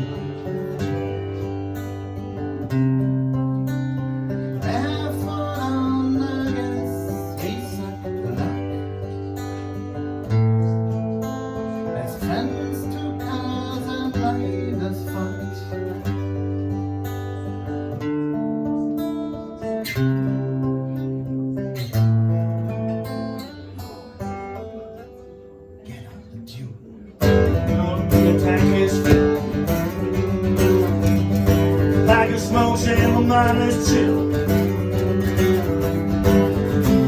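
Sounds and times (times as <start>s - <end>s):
strummed guitars: 0.0s - 37.0s.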